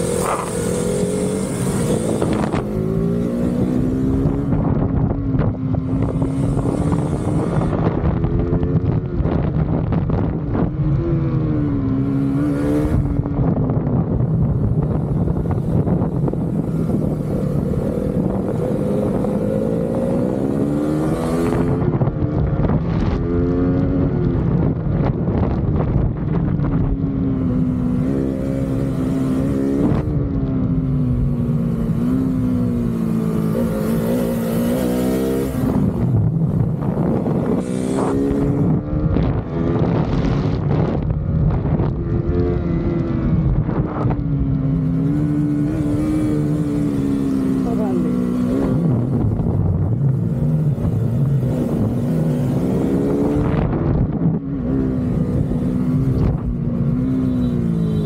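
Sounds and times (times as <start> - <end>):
motorcycle engine revving: 0.0 - 58.0
wind rushing over microphone: 0.0 - 58.0.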